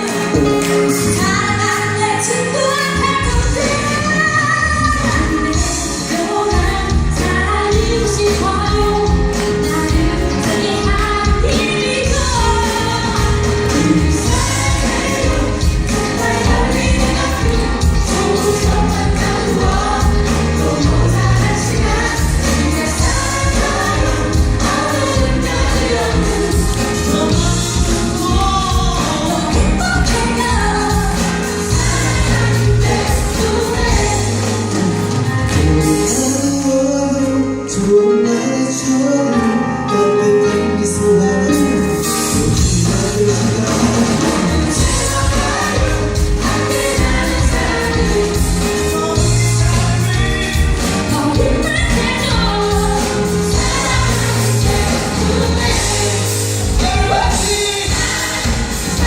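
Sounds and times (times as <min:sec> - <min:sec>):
live band playing pop ballad: 0:00.0 - 0:59.0
voices singing: 0:02.9 - 0:36.4, 0:42.4 - 0:59.0.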